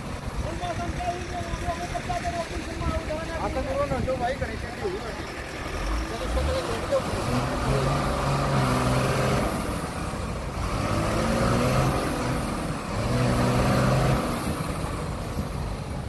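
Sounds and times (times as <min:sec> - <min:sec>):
heavy engine revving: 0:00.0 - 0:16.0.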